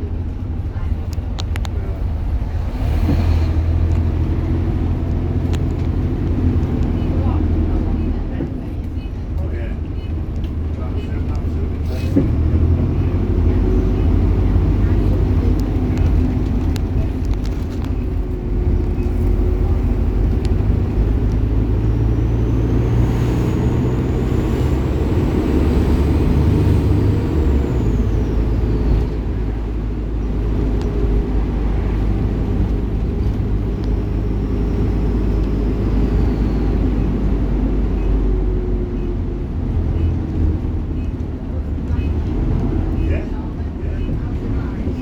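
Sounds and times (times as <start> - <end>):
bus engine rumble: 0.0 - 45.0.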